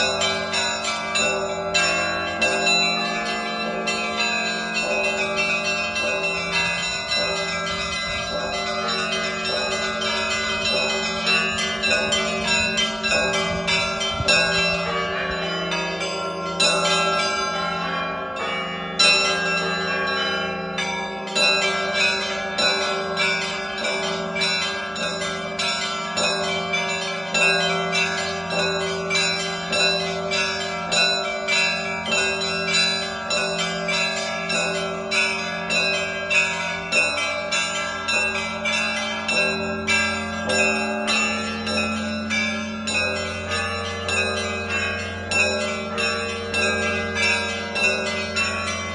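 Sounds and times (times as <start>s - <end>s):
deep bell humming: 0.0s - 48.9s
high church bells pealing: 0.0s - 48.9s.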